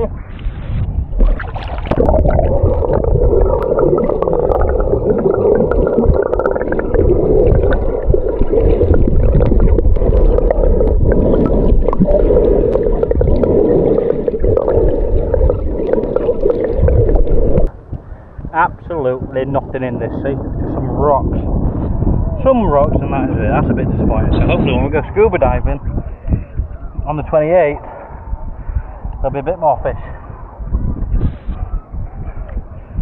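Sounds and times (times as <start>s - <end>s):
underwater gurgling and sloshing: 0.0s - 33.0s.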